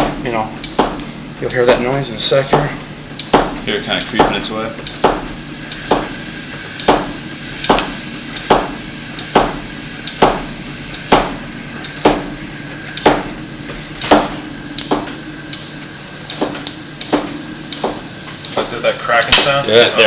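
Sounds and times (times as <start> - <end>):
bicycle floor pump strokes: 0.0 - 19.1.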